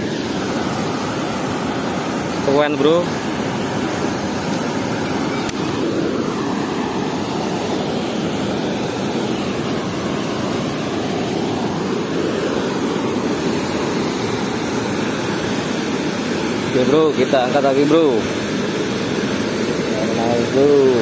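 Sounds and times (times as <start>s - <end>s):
water rushing through sluice gates: 0.0s - 21.0s.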